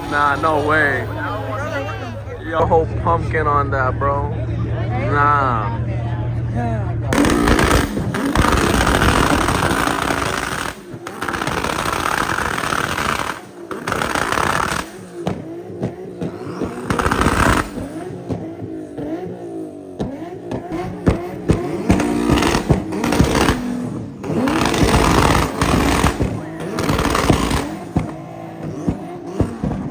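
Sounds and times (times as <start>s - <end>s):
car engines revving: 0.0s - 29.9s
crowd voices: 0.0s - 29.9s.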